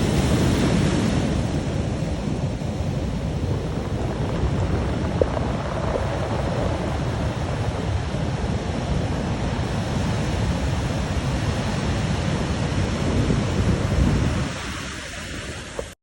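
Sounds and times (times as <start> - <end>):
ocean surf breaking against rocks: 0.0 - 16.0.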